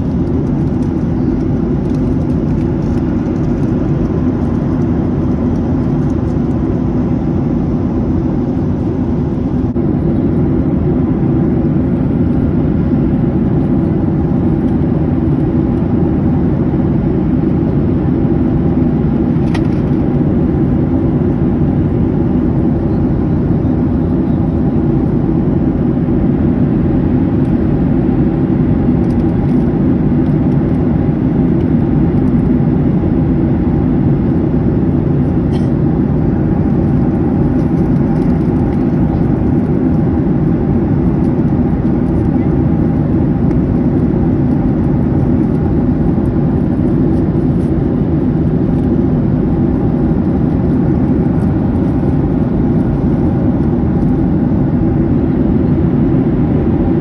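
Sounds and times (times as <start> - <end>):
jet cabin engine hum: 0.0 - 57.0.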